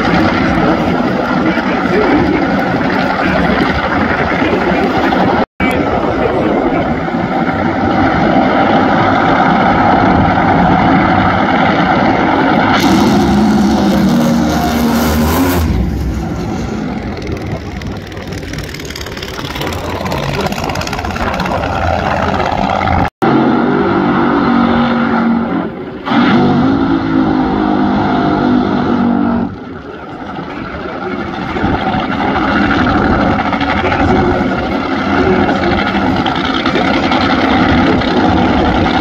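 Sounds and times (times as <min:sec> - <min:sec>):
drag racing engines roaring: 0:00.0 - 0:39.0
tyre-smoking burnouts: 0:06.0 - 0:39.0.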